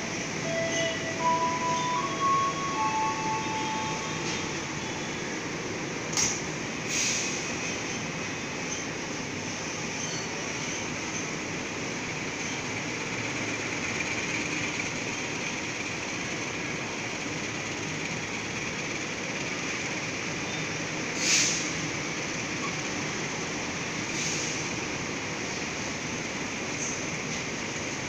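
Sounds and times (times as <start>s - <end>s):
train wheels on rails: 0.0s - 28.0s.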